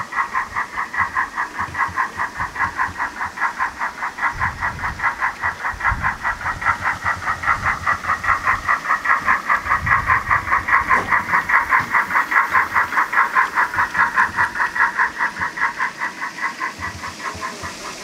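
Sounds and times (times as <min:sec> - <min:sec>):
model steam locomotive exhaust chuffs: 0:00.0 - 0:18.0.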